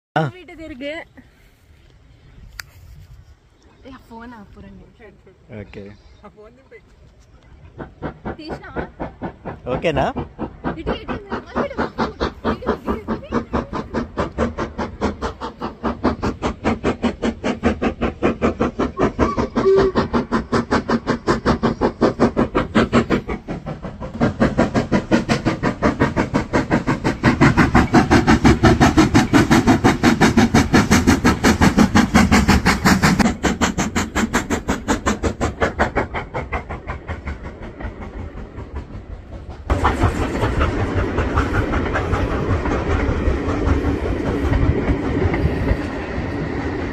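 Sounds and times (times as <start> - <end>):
steam locomotive chuffing: 2.6 - 46.9.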